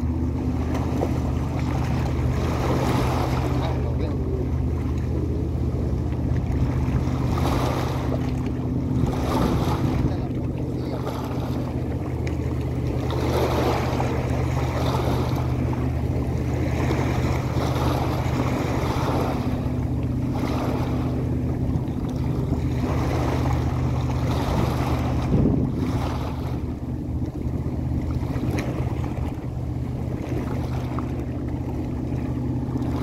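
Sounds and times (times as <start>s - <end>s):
low motor hum: 0.0s - 33.0s
wind buffeting microphone: 0.0s - 33.0s.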